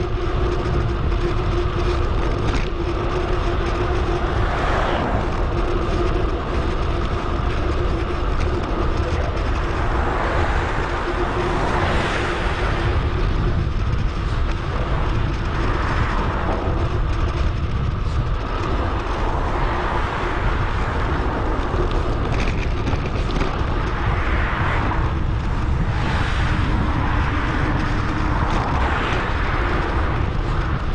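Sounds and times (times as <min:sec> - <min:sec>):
road and tyre noise: 0:00.0 - 0:30.9
wind rush on microphone: 0:00.0 - 0:30.9.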